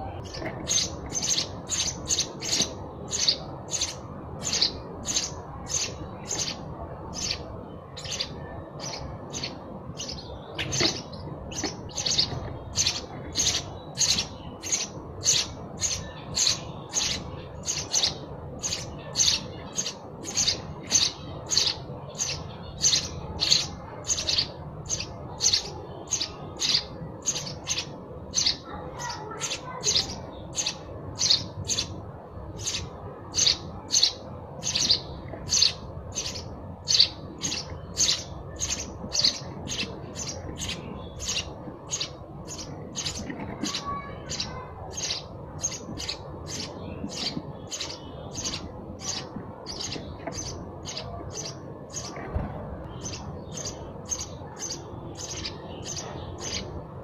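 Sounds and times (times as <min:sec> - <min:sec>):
sparrow chirping: 0:00.0 - 0:57.0.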